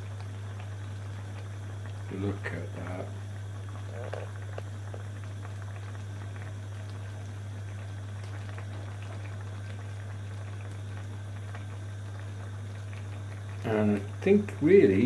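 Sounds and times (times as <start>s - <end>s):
steady low hum: 0.0s - 15.0s
stew bubbling and popping: 0.0s - 15.0s.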